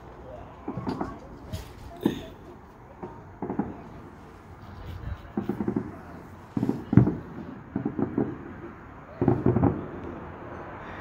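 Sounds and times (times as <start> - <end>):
distant fireworks bangs and pops: 0.3 - 10.4.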